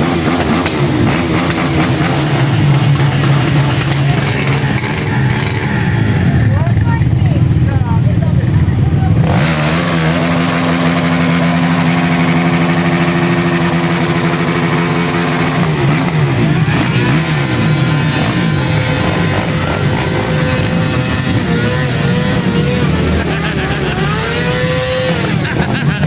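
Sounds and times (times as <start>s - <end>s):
quad bike engines revving: 0.0s - 26.0s.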